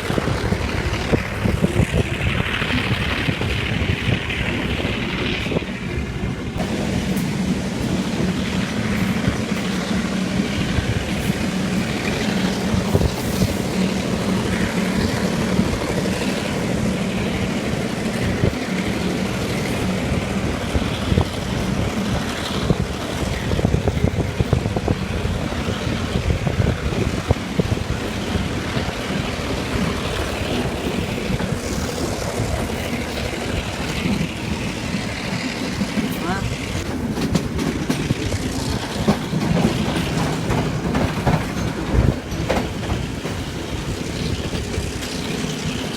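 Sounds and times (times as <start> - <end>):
diesel locomotive engine drone: 0.0 - 45.9
train rolling and wind noise: 0.0 - 45.9.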